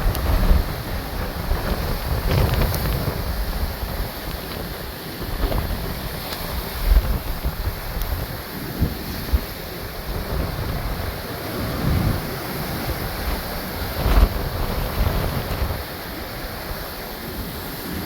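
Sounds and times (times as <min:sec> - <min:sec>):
heavy surf breaking: 0:00.0 - 0:18.0
wind buffeting microphone: 0:00.0 - 0:18.0.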